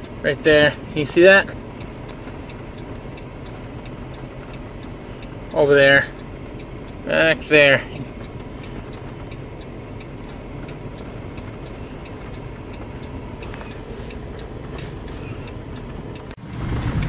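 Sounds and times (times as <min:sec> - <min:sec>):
road and engine noise: 0:00.0 - 0:17.0
faint ticks: 0:01.6 - 0:16.4.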